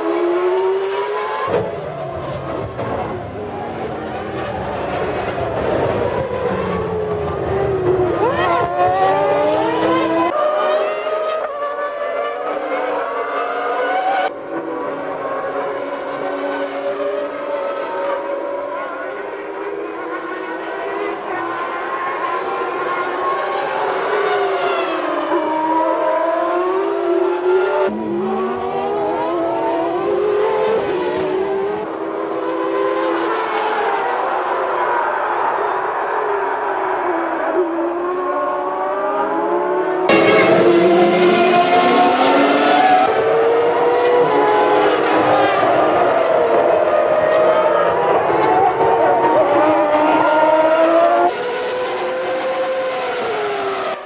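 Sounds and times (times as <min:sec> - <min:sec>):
racing car engines revving: 0:00.0 - 0:54.0.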